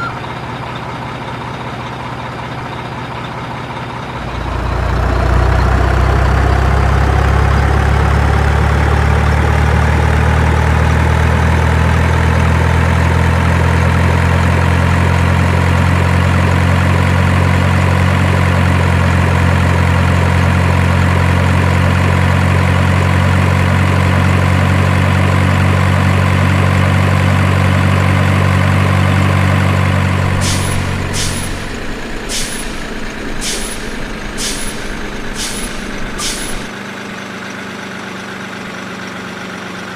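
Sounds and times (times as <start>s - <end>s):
truck engine idling: 0.0s - 36.7s.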